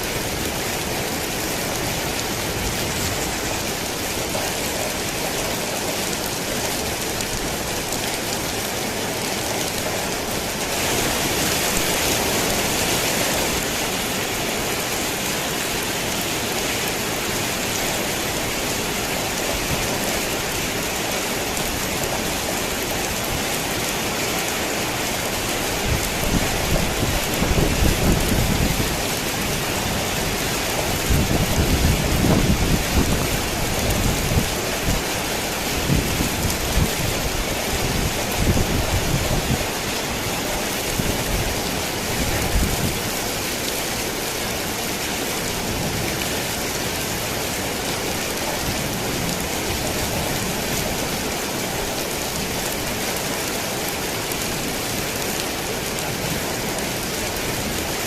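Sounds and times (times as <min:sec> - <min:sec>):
rain drumming on a tin roof: 0:00.0 - 0:58.0.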